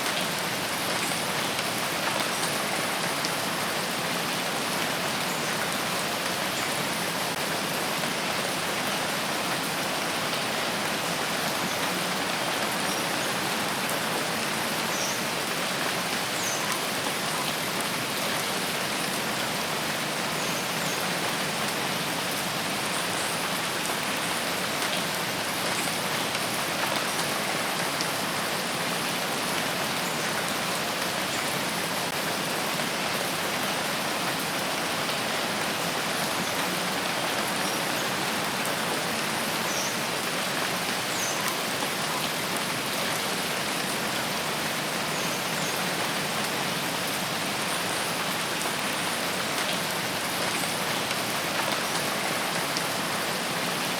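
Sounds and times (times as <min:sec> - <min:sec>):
rain falling on foliage: 0:00.0 - 0:53.9.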